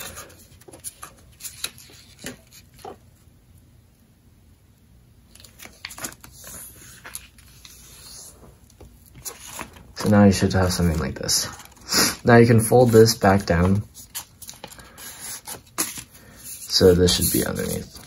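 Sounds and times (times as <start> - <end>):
paper being folded: 0.0 - 3.0, 5.4 - 18.0.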